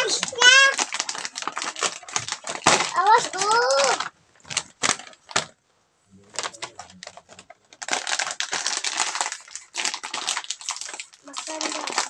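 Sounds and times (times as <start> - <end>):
plastic snack bag crinkling: 0.0 - 5.6, 6.3 - 12.0.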